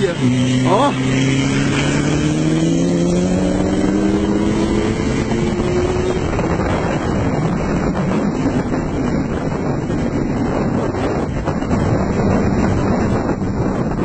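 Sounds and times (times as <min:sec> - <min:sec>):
motorcycle engine pulling hard: 0:00.0 - 0:14.0
wind rush on microphone: 0:00.0 - 0:14.0.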